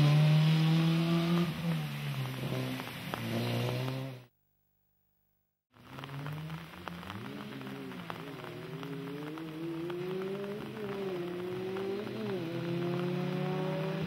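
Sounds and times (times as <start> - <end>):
rally car engine revving: 0.0 - 4.3, 5.8 - 14.0
tyre hiss and spray on wet road: 0.0 - 4.3, 5.7 - 14.0.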